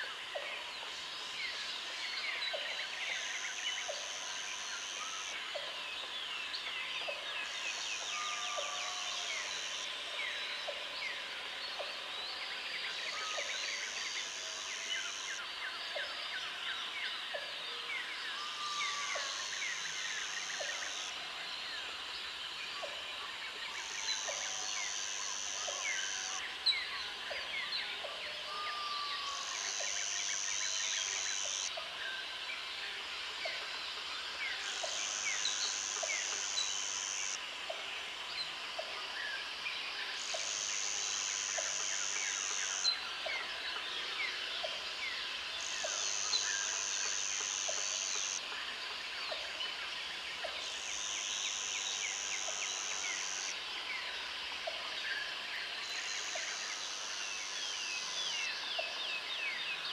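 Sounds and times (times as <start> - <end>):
steady insect drone: 0.0 - 59.9.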